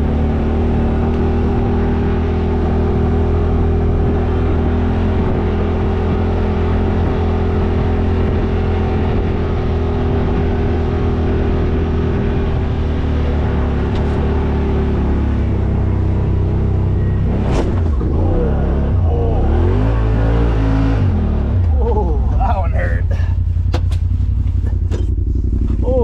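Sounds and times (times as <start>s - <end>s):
side-by-side engine running: 0.0s - 26.0s.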